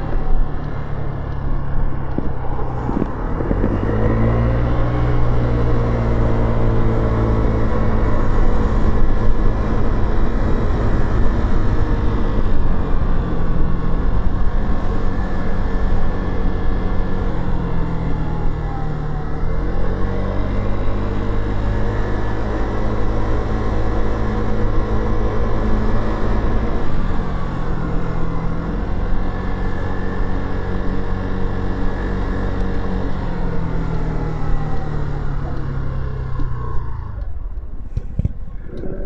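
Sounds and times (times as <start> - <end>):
motorcycle engine: 0.0 - 39.0.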